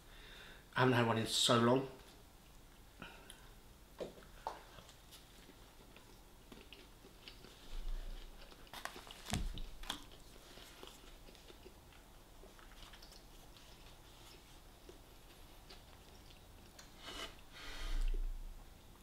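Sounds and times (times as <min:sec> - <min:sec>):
person chewing food: 0:02.4 - 0:18.2.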